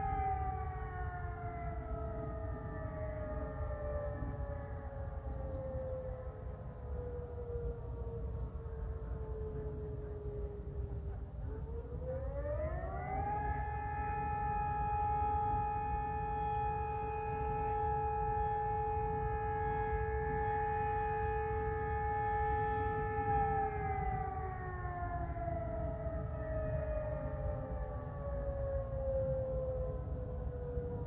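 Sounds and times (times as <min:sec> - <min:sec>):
warning siren: 0:00.0 - 0:31.0.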